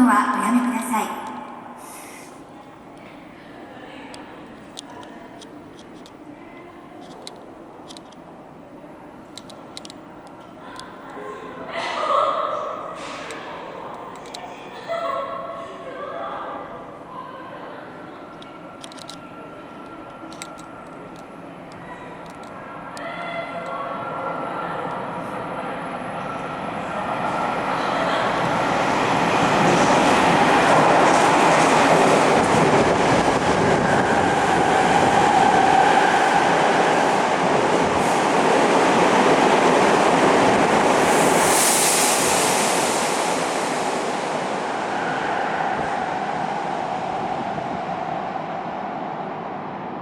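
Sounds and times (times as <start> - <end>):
subway train running at speed: 0.0 - 50.0.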